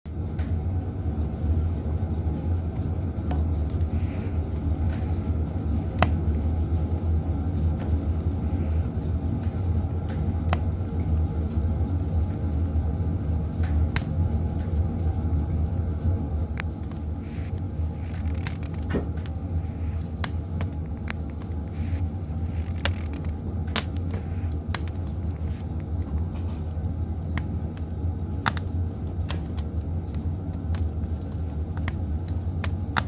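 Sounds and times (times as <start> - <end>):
fire rumbling in wood stove: 0.1 - 33.0
crackles and pops of firewood: 0.2 - 33.0.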